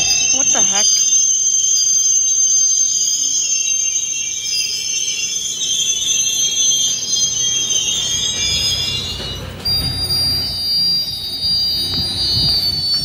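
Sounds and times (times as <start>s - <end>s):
low train rumble: 0.0s - 13.0s
train wheels squealing: 0.0s - 13.0s.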